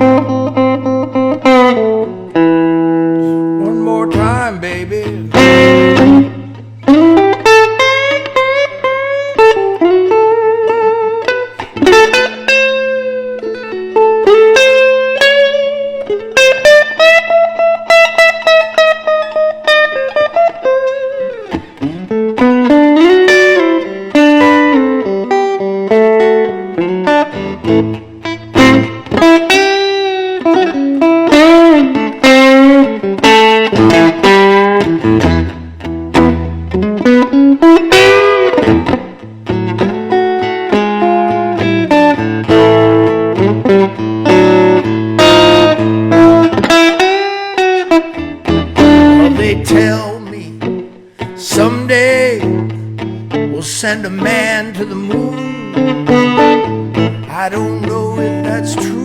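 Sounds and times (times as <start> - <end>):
electric guitar blues solo: 0.0 - 59.0.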